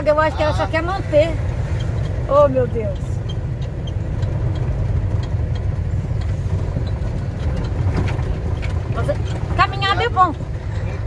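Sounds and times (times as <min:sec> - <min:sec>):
truck engine and tyres rumbling: 0:00.0 - 0:11.0.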